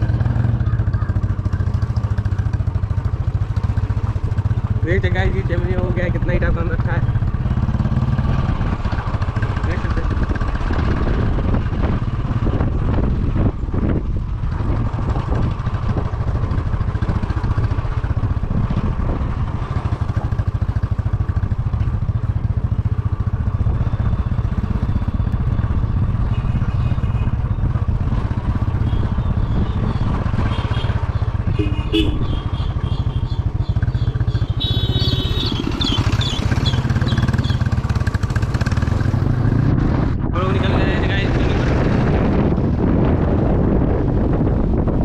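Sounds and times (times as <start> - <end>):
road noise: 0.0 - 45.0
vehicle engine droning: 0.0 - 45.0.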